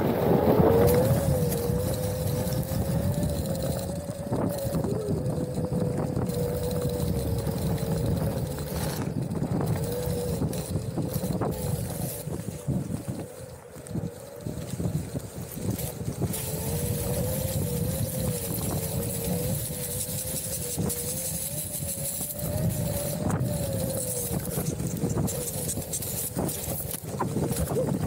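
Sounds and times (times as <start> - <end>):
electric motor whining: 0.0 - 28.0
wheel rolling on dirt trail: 0.0 - 28.0.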